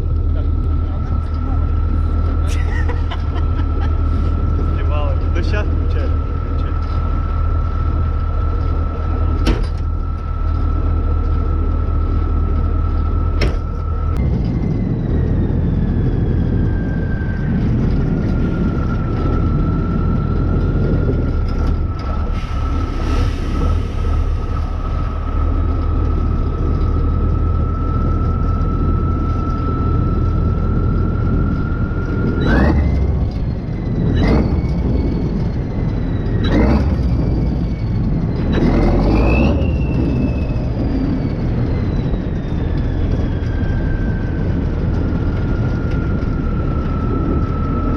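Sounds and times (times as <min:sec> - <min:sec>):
diesel engine rumble: 0:00.0 - 0:47.9
high engine whine: 0:00.0 - 0:47.9.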